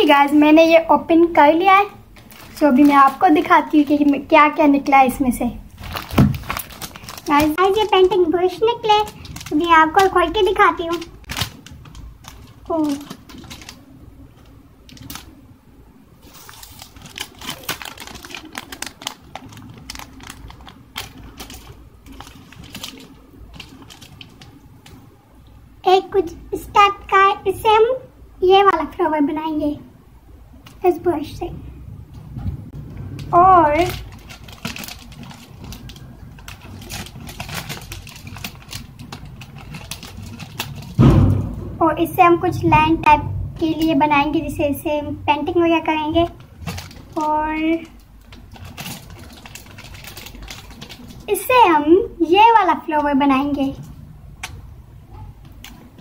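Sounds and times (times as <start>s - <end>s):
low steady hum: 0.0s - 56.0s
plastic packaging crinkling: 1.4s - 15.5s, 16.2s - 25.6s, 32.6s - 42.8s, 43.6s - 56.0s.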